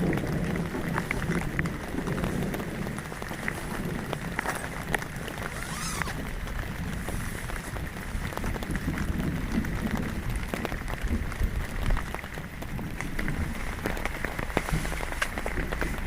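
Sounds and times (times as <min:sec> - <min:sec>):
raindrops ticking: 0:00.0 - 0:16.0
steady rain hiss: 0:00.0 - 0:16.0.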